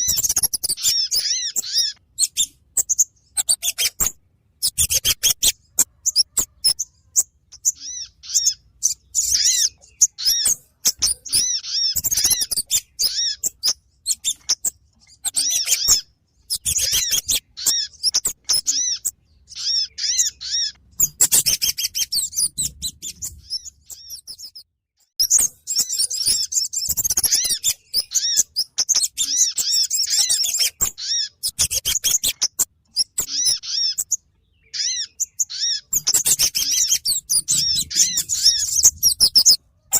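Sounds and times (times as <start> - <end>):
high-pitched bird chirps and chattering: 0.0 - 39.9.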